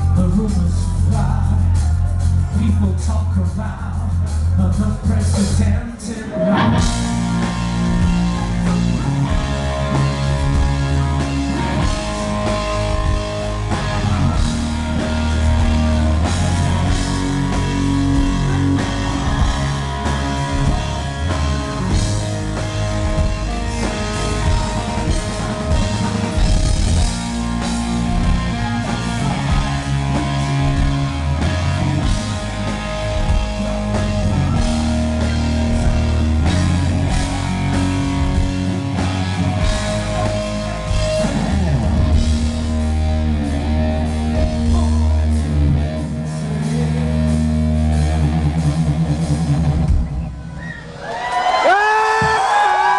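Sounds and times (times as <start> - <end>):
drum kit: 0.0 - 52.9
heavy bass notes: 0.0 - 52.9
live hard rock band playing: 0.0 - 52.9
electric guitar: 4.2 - 52.9.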